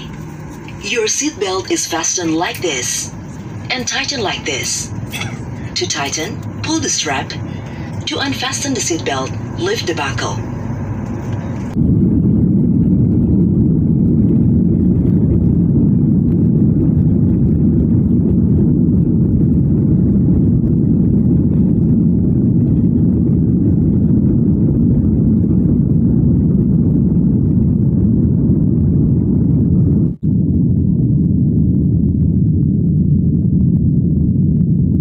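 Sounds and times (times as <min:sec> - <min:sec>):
jet engines rumbling in cabin: 0:00.0 - 0:35.0.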